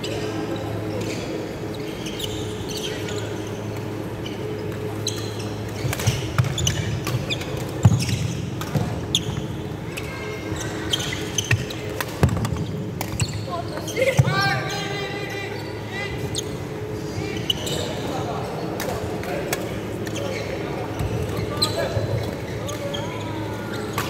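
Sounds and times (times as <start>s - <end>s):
shoes squeaking on court floor: 0.0s - 24.0s
steady background hum: 0.0s - 24.0s.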